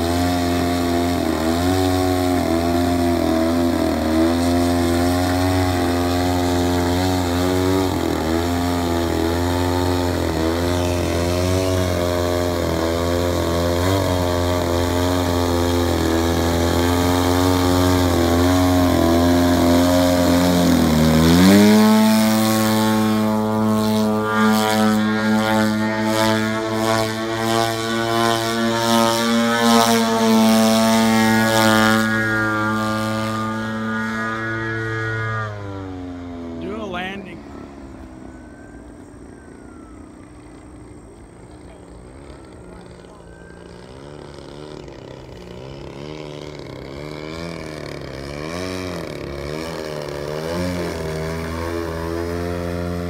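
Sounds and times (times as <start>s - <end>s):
model plane engine and propeller: 0.0s - 53.0s.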